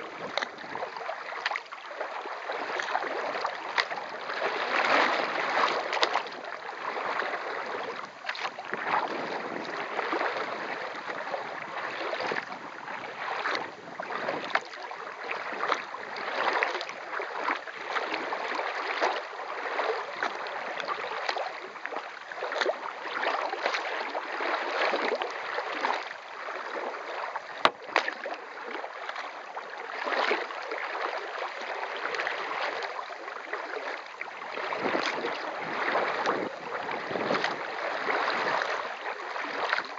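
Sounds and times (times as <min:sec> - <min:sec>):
paddle strokes and water splashing: 0:00.0 - 0:39.9.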